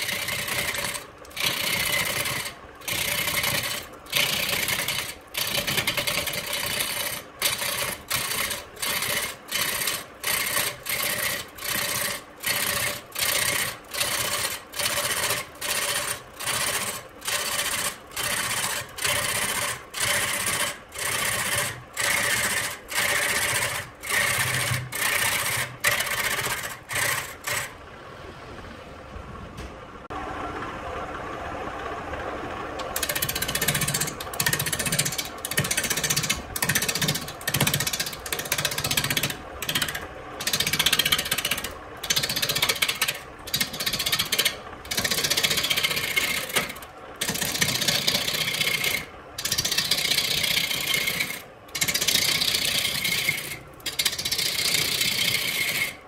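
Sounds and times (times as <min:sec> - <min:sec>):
turning tool cutting wood: 0:00.0 - 0:27.8, 0:32.8 - 0:56.0
wood lathe running: 0:00.0 - 0:27.8, 0:32.2 - 0:56.0.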